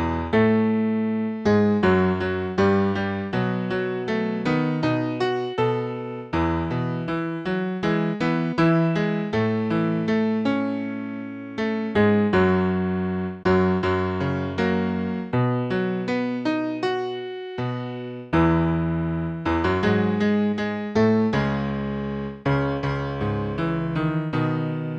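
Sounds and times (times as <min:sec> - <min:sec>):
piano playing hymn-like chords: 0:00.0 - 0:24.9.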